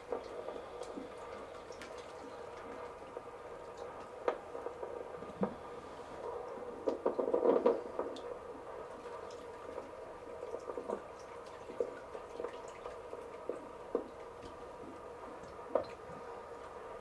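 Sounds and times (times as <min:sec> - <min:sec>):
steady hum: 0:00.0 - 0:17.0
water dripping and splashing: 0:00.0 - 0:17.0.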